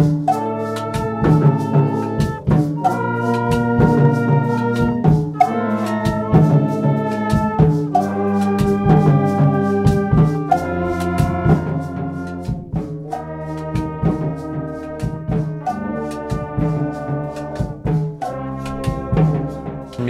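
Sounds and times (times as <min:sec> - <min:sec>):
brass chords: 0:00.0 - 0:20.0
drum and cymbal beat: 0:00.0 - 0:20.0.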